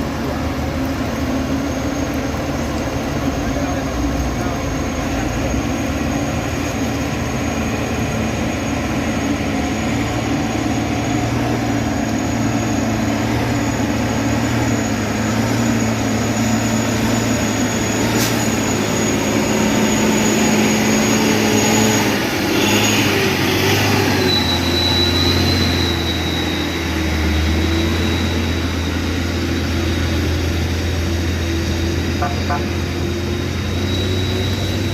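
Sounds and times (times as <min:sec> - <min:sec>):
heavy diesel engine running: 0:00.0 - 0:34.9
thin high whine: 0:01.2 - 0:31.4, 0:32.1 - 0:34.9.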